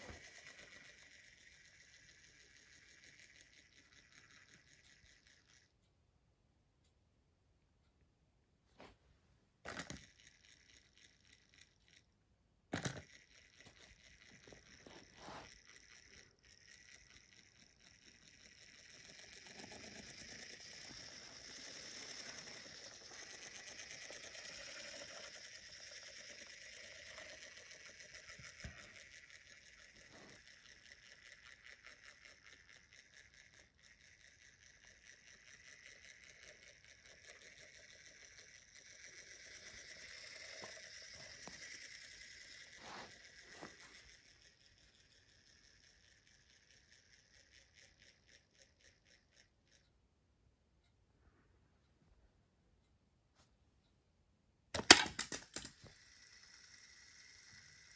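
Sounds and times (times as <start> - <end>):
toy train motor whirring: 0.0 - 5.9, 9.6 - 50.1, 54.8 - 57.9.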